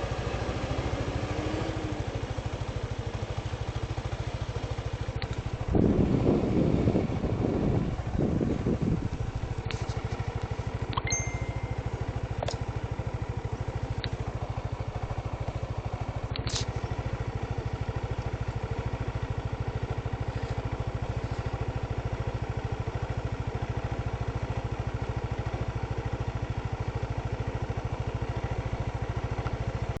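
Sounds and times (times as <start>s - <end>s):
engine running with rapid pulse: 0.0s - 30.0s.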